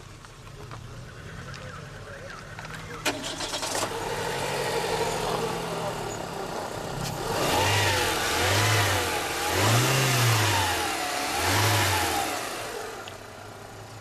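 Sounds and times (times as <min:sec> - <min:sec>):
car engine idling: 0:00.0 - 0:14.0
car engine revving: 0:01.0 - 0:14.0.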